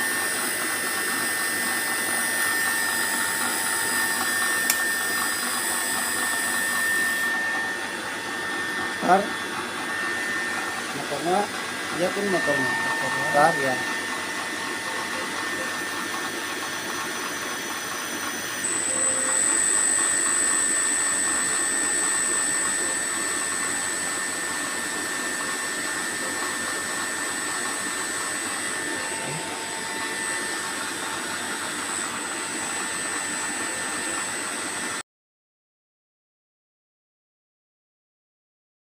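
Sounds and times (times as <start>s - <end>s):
high-pitched whine: 0.0s - 34.1s
electric motor running: 0.0s - 34.9s.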